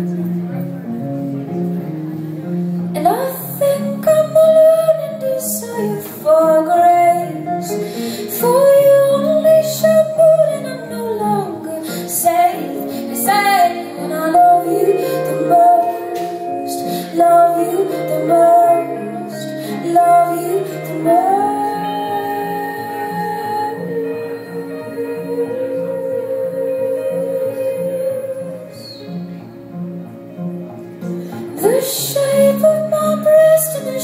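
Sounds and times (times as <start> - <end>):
acoustic guitar: 0.0 - 34.0
woman singing: 3.0 - 29.0, 31.5 - 34.0.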